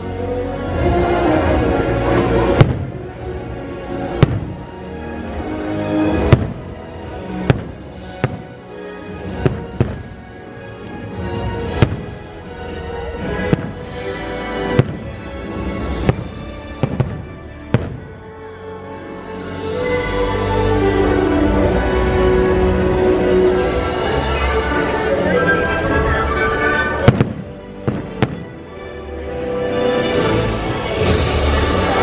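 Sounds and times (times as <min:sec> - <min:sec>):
music playing: 0:00.0 - 0:32.0.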